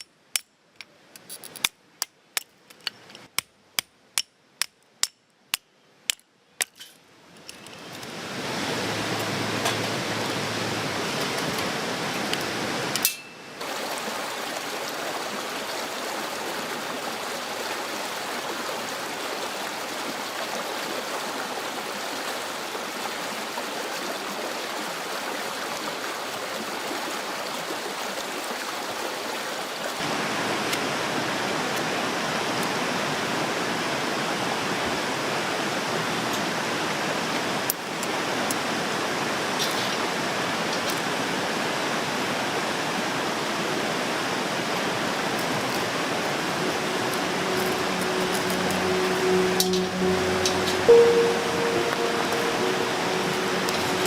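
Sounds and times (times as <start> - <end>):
stream water flowing: 6.0 - 54.0.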